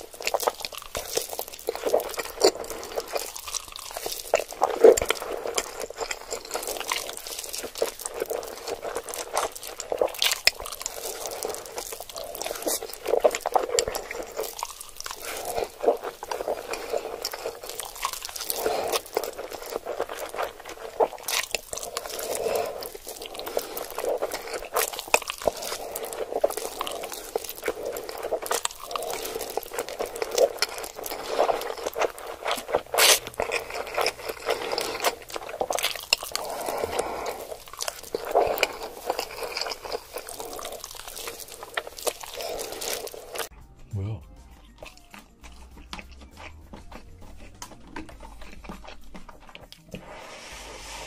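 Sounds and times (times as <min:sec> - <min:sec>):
slurping noodles: 0:00.0 - 0:43.5, 0:44.8 - 0:51.0
chewing with lip smacks: 0:00.0 - 0:43.6, 0:44.5 - 0:50.2.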